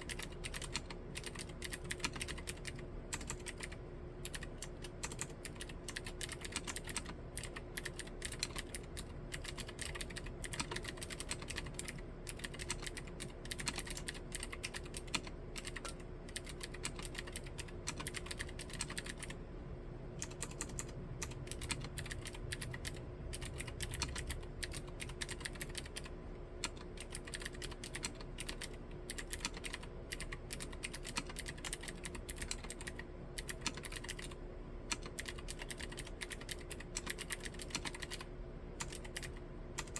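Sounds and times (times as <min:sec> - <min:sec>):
clicky mechanical keyboard typing: 0:00.0 - 0:19.4, 0:20.2 - 0:39.9.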